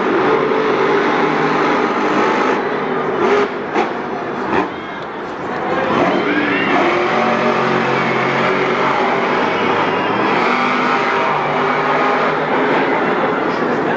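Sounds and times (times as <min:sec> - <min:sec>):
truck engine at high revs: 0:00.0 - 0:13.9.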